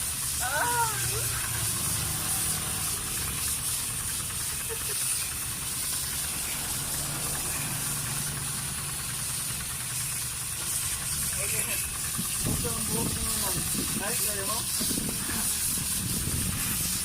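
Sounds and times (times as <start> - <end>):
low motor hum: 0.0 - 17.0
water spraying from a hose: 0.0 - 17.0.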